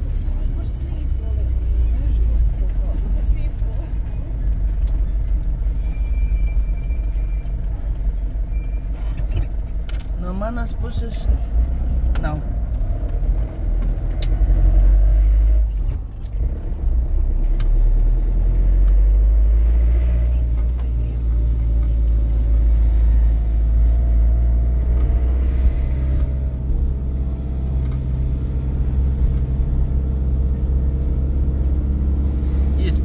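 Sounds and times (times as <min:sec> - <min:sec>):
large vehicle engine: 0:00.0 - 0:33.0
road rumble: 0:00.0 - 0:33.0.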